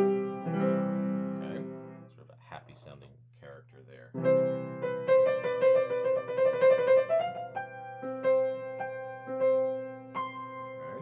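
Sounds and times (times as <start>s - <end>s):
grand piano playing: 0.0s - 2.1s, 4.2s - 11.0s.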